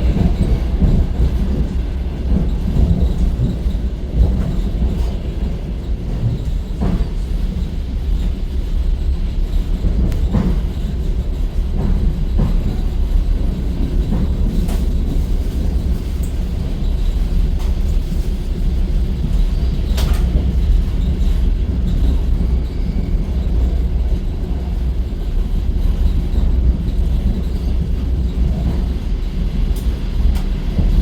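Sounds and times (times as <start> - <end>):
train interior rumble: 0.0 - 31.0.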